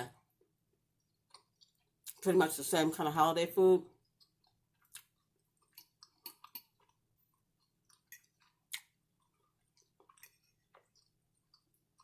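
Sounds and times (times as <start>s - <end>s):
close-miked chewing: 0.4s - 2.3s, 4.0s - 12.0s.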